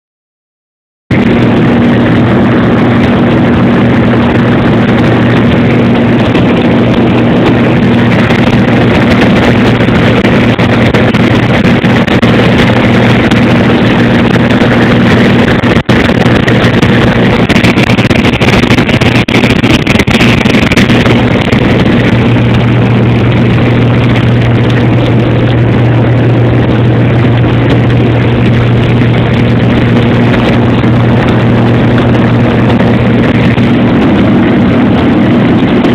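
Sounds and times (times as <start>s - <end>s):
airplane engine drone in cabin: 1.1s - 35.9s
crackles: 1.1s - 35.9s.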